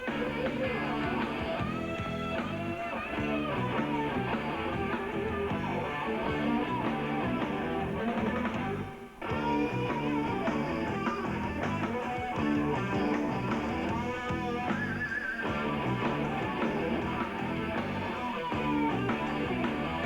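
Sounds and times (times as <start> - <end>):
rock band with lead guitar: 0.0 - 20.0.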